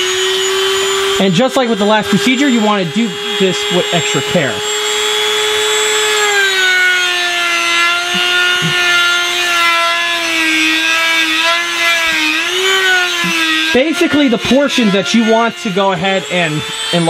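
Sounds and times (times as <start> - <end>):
rotary tool sanding: 0.0 - 17.0.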